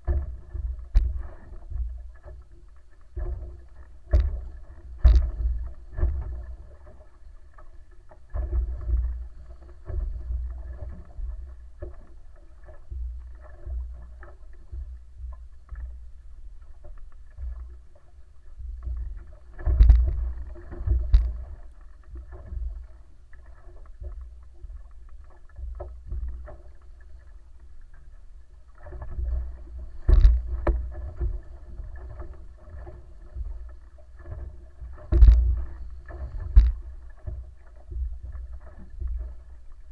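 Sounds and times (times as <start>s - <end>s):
wind and water rumbling along hull: 0.0s - 39.9s.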